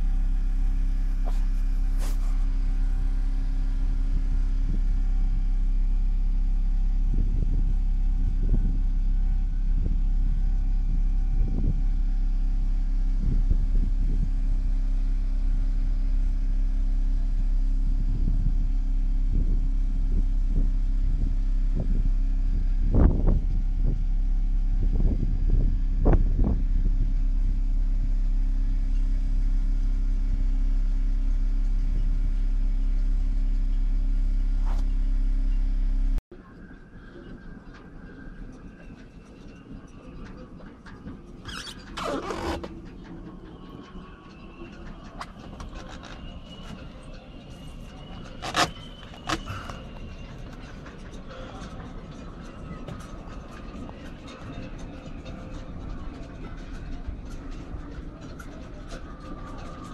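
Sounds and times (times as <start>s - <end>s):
low rumble with hum: 0.0s - 59.9s.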